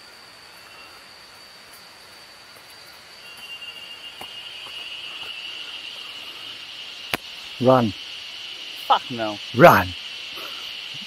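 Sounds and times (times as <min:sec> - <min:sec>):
insects buzzing chorus: 0:00.0 - 0:11.0
insects high-pitched drone: 0:00.0 - 0:11.0.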